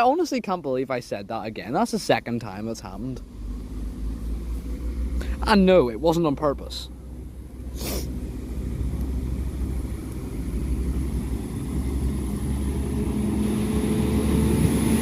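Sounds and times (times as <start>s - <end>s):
diesel train rumbling: 0.6s - 15.0s.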